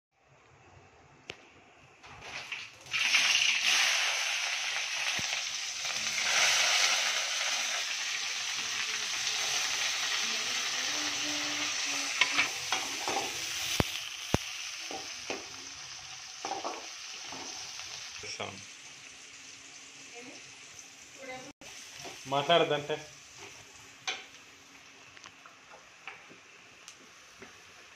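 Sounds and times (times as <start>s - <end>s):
vegetables sizzling in hot oil: 2.0s - 27.9s.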